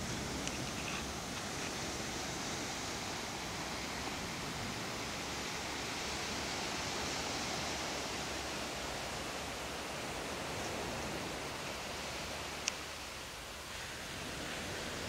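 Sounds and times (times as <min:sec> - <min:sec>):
ocean surf on sandy shore: 0:00.0 - 0:15.0.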